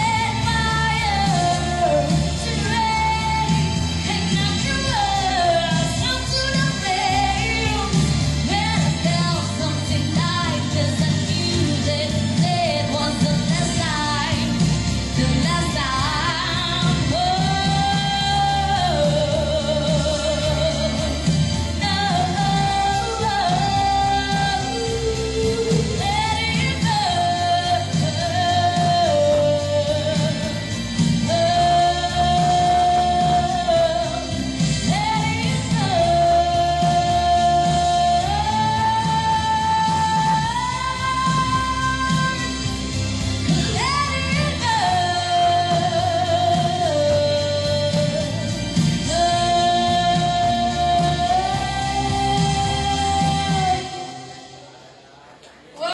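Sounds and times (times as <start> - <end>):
woman singing through microphone: 0.0 - 54.8
instrumental backing music: 0.0 - 55.8.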